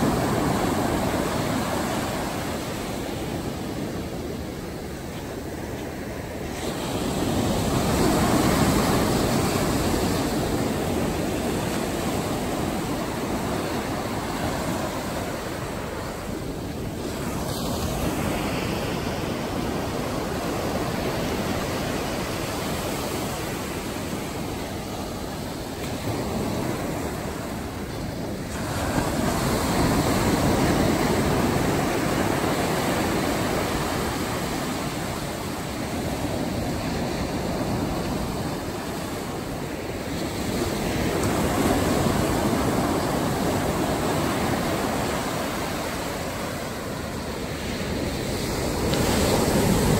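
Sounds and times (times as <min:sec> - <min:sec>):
waves breaking on a beach: 0:00.0 - 0:49.9.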